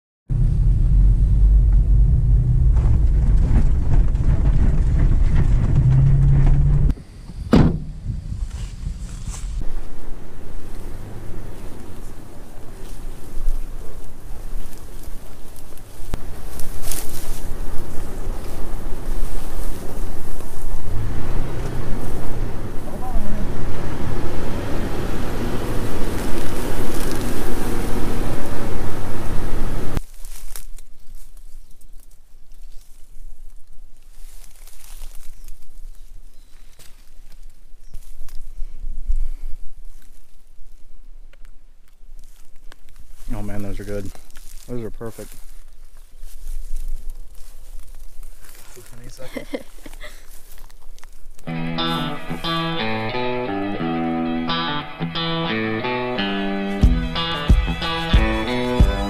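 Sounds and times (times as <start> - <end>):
car engine and tyre rumble: 0.3 - 59.0
outdoor background noise: 0.3 - 59.0.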